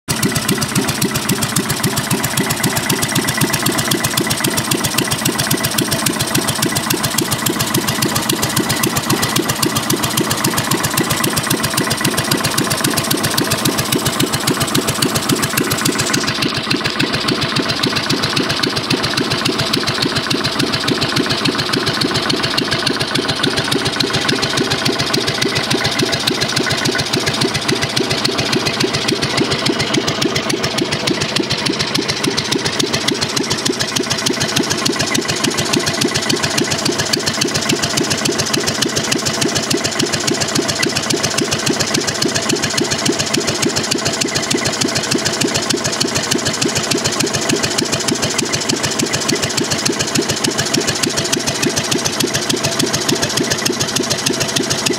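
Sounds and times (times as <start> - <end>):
single-cylinder engine running: 0.0 - 54.9.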